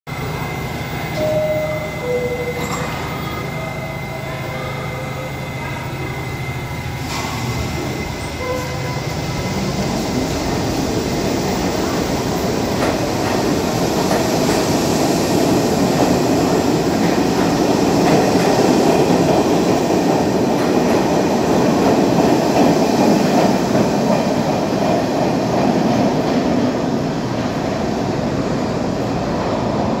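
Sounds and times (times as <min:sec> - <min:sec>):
subway train rumbling past: 0:00.1 - 0:30.0.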